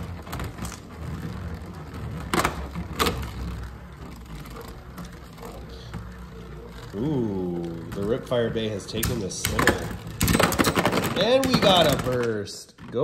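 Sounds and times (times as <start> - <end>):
spinning tops whirring: 0.0 - 12.6.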